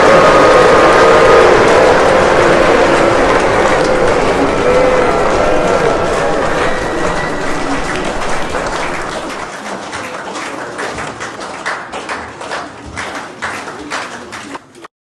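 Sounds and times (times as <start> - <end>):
crowd applause: 0.0 - 14.8.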